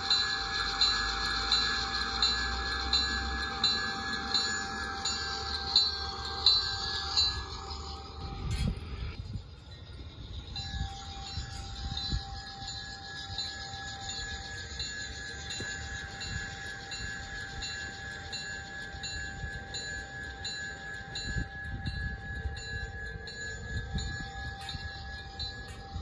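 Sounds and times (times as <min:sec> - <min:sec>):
model train electric whine: 0:00.0 - 0:26.0.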